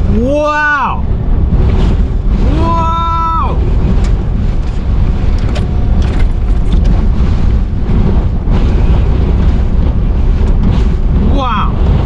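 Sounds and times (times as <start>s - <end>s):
strong wind buffeting a vehicle: 0.0s - 12.0s.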